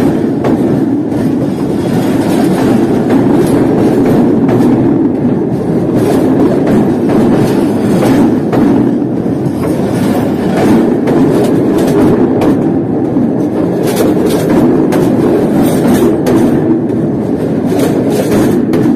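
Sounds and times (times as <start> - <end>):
clickety-clack over rail joints: 0.0 - 18.9
train wheels rumbling on rails: 0.0 - 18.9.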